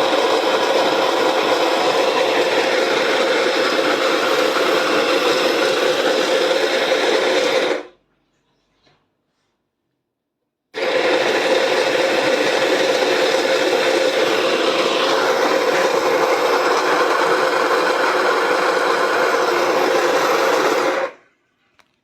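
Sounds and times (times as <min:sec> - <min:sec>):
coffee grinder grinding beans: 0:00.0 - 0:08.0, 0:10.8 - 0:21.2.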